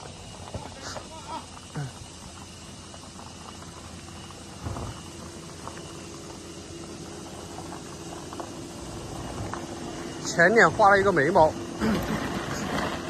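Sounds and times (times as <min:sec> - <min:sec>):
off-road vehicle engine droning: 0:00.0 - 0:13.0
rough outdoor background noise: 0:00.0 - 0:13.0.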